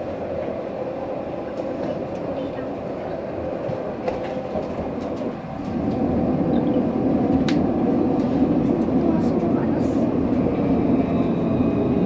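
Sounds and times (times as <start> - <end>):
tram wheels and motors rumbling: 0.0 - 12.0.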